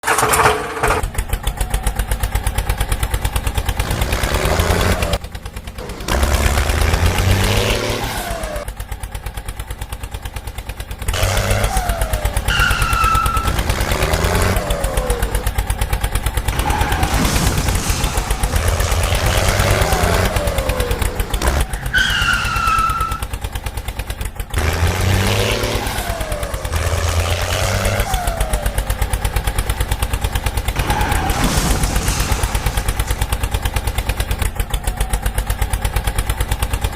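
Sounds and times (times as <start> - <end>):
tractor diesel engine revving: 0.0 - 36.9.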